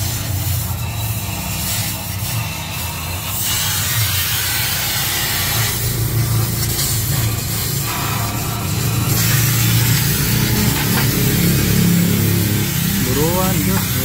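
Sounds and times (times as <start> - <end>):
gas torch flame hissing: 0.0 - 14.0
steady low hum: 0.0 - 14.0.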